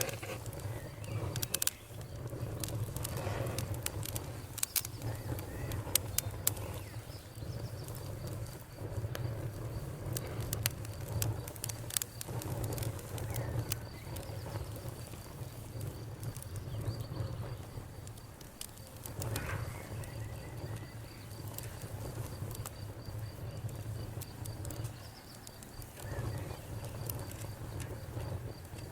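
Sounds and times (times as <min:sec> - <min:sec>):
campfire crackling and popping: 0:00.0 - 0:28.9
insect trill: 0:00.0 - 0:28.9.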